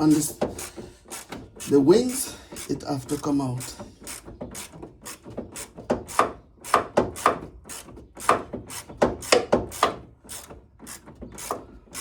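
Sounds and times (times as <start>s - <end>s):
ratchet wrench rasping: 0.0s - 12.0s.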